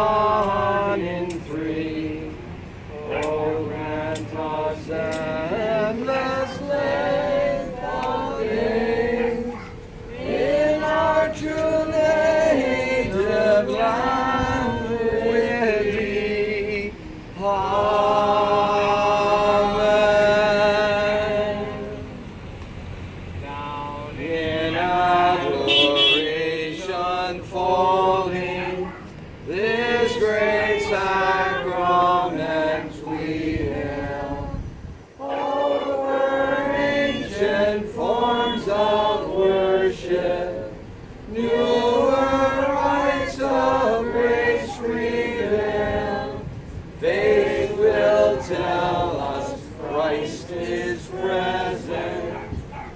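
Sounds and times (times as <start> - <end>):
group singing unaccompanied chant: 0.0 - 52.9.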